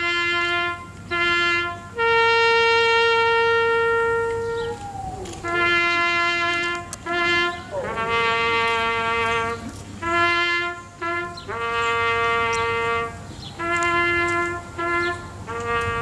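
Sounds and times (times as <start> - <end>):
solo trumpet playing: 0.0 - 16.0.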